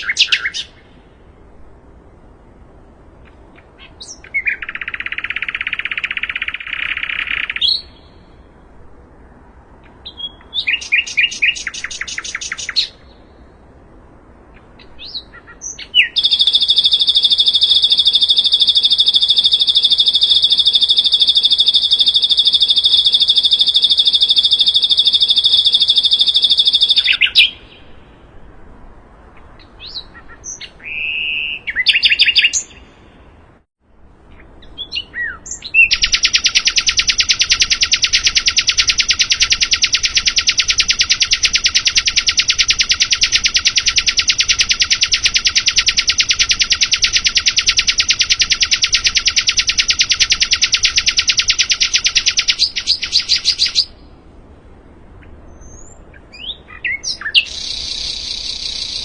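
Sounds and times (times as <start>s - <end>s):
songbird singing trills: 0.0s - 1.6s, 3.1s - 28.5s, 29.3s - 33.3s, 34.2s - 54.2s, 55.2s - 59.0s.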